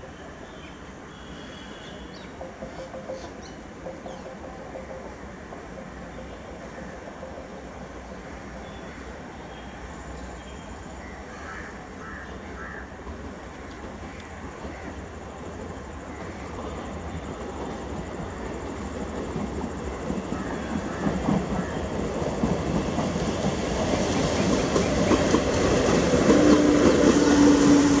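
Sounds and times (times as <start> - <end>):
train wheels clattering on rails: 1.9 - 9.3, 13.0 - 28.0.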